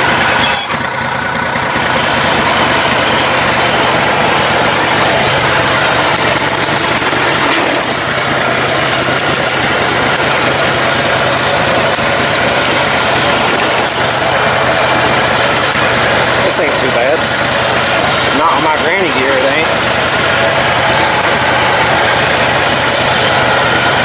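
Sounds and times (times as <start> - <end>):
riding mower engine running: 0.0 - 24.0.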